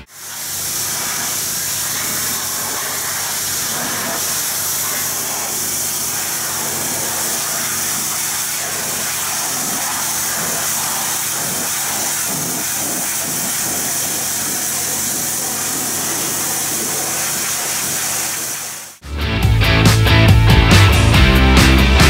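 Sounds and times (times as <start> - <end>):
gasoline engine running: 0.0 - 19.0
pressure washer jet hissing: 0.0 - 19.0.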